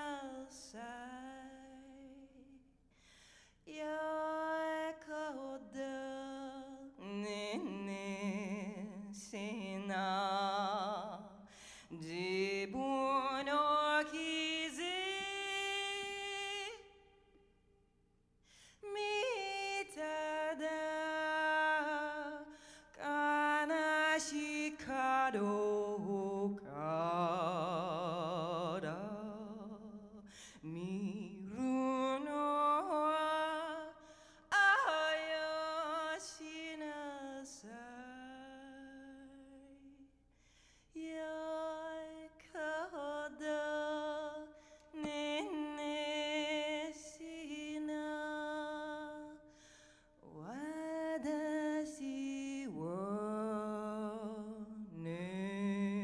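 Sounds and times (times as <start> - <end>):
woman singing a cappella: 0.0 - 2.8, 3.5 - 17.5, 18.6 - 40.2, 40.8 - 56.0.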